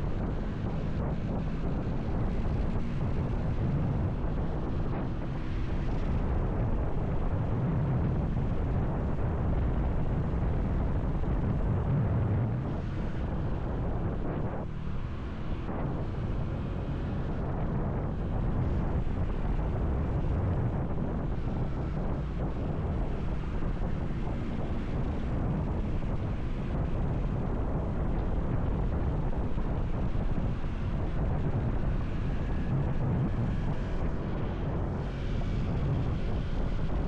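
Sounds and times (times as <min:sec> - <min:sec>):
road noise: 0:00.0 - 0:37.0
wind buffeting microphone: 0:00.0 - 0:37.0.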